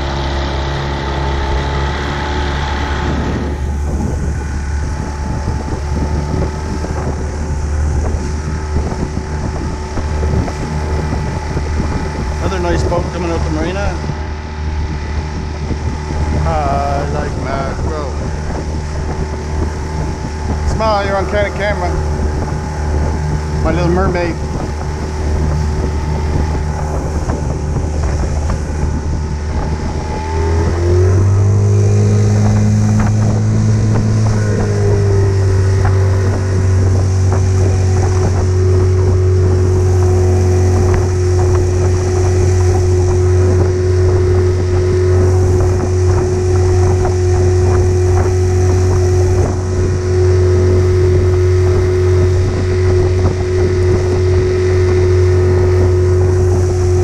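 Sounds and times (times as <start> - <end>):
outboard motor running: 0.0 - 57.0
rush of boat wake: 0.0 - 57.0
wind on microphone: 0.0 - 57.0.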